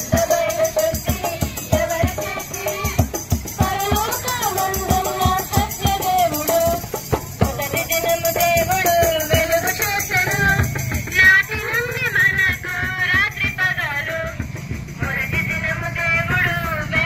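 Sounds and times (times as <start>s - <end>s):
shaken rattle percussion: 0.0s - 17.0s
steady percussion beat: 0.0s - 17.0s
voices singing devotional song: 0.0s - 17.0s.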